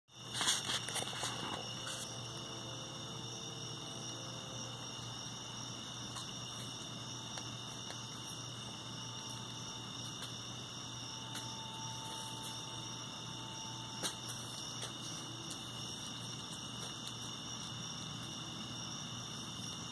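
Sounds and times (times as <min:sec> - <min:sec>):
night insects chorus: 0:00.1 - 0:19.9.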